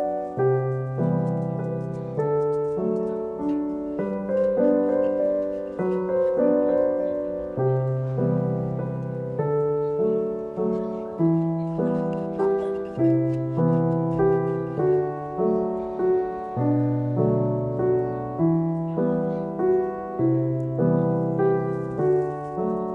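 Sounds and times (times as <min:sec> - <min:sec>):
gentle piano music: 0:00.0 - 0:22.9.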